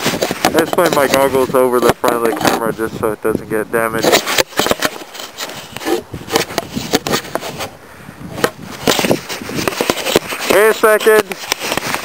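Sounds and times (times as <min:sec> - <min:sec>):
microphone handling noise: 0:00.0 - 0:12.0.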